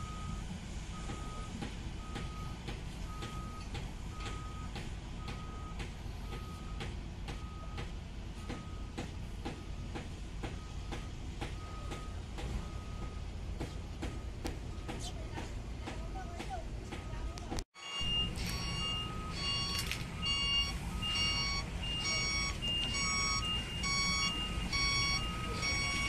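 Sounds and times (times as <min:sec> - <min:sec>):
diesel engine running: 0:00.0 - 0:26.0
excavator travel alarm beeping: 0:00.0 - 0:26.0.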